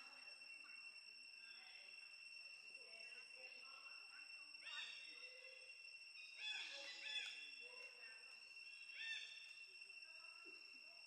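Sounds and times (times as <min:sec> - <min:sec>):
faint steady high tone: 0:00.0 - 0:11.0.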